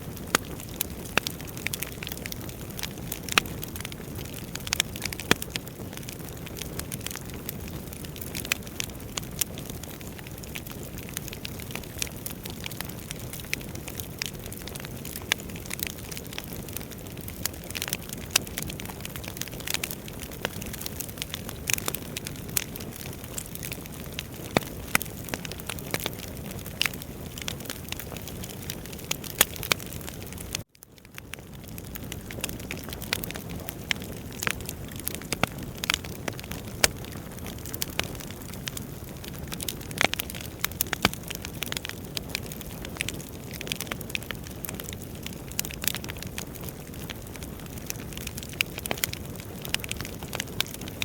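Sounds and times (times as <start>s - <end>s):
wood fire crackling in fireplace: 0.0s - 51.0s.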